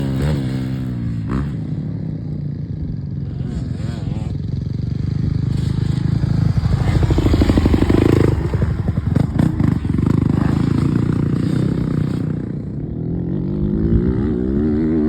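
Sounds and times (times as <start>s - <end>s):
motocross engine revving: 2.9s - 15.0s.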